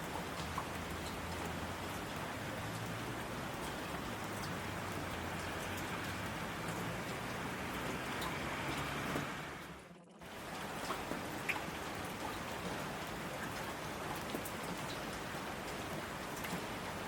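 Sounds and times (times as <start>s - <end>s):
raindrop ticks: 0.0s - 9.3s, 10.3s - 17.0s
steady rain falling: 0.0s - 17.0s.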